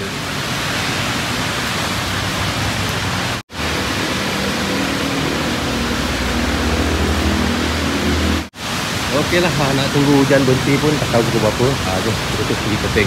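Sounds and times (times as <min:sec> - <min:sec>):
heavy rain on car roof: 0:00.0 - 0:04.4, 0:05.4 - 0:13.0.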